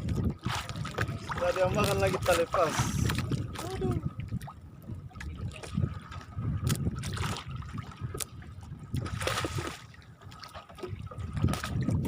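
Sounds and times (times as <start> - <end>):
water lapping against boat: 0.0 - 12.0.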